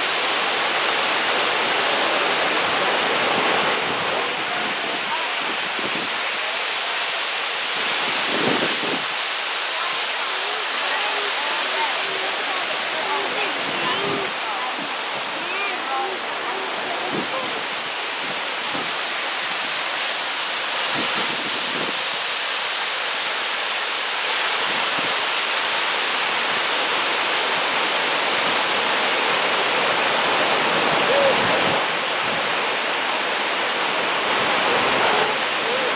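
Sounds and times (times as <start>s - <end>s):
fountain water cascading: 0.0s - 35.9s.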